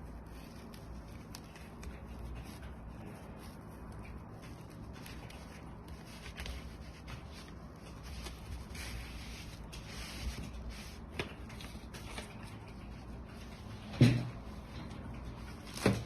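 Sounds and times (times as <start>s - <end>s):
fabric rubbing and rustling: 0.0s - 16.0s.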